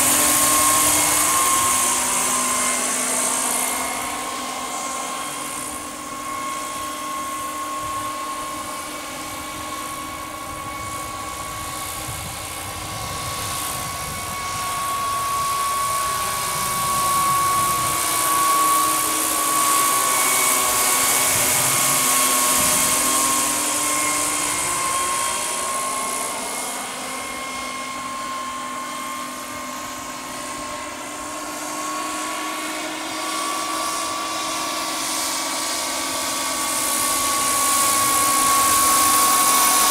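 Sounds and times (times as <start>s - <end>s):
helicopter rotor noise: 0.0s - 39.9s
turbine whine: 0.0s - 39.9s.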